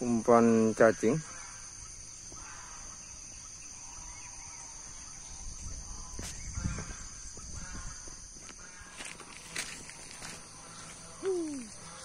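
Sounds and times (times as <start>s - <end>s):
birds calling: 0.0s - 12.0s
high-pitched insect drone: 0.0s - 12.0s.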